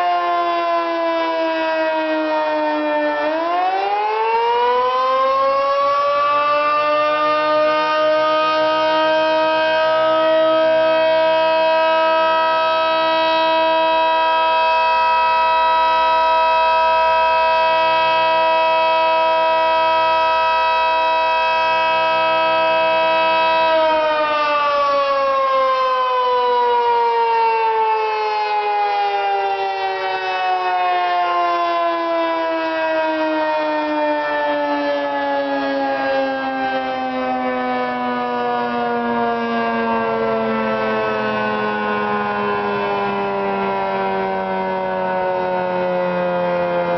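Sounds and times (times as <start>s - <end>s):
electromechanical siren wailing: 0.0s - 46.9s.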